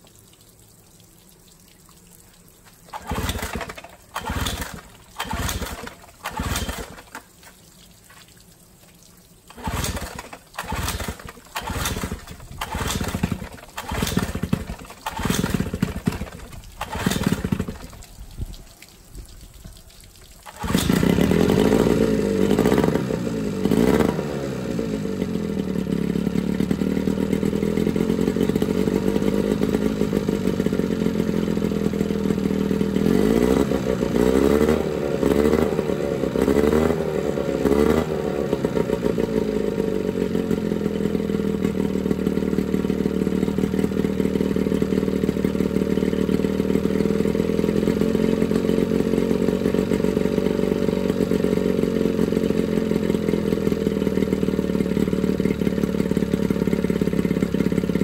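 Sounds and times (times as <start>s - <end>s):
outboard motor running: 2.9s - 7.5s, 9.5s - 18.1s, 20.4s - 58.0s.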